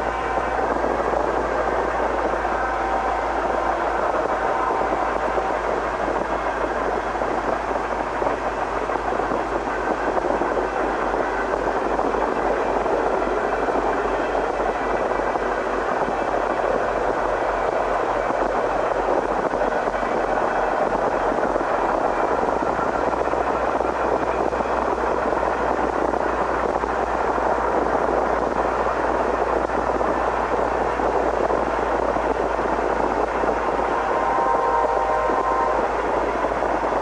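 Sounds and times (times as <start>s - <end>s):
freight train wheels on rail: 0.0s - 37.0s
low hum: 0.0s - 37.0s.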